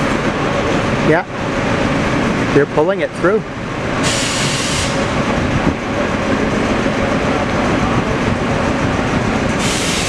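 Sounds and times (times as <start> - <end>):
towing locomotive running on track: 0.0 - 10.0.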